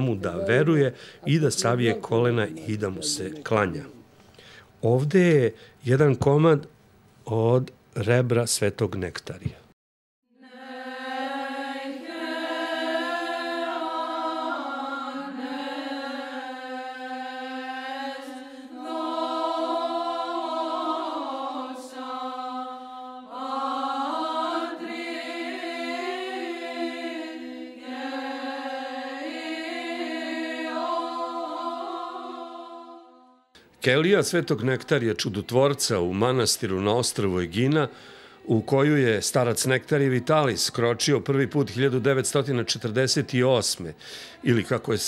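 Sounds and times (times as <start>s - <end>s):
voices chanting slow melody: 0.0s - 4.1s, 10.4s - 45.0s.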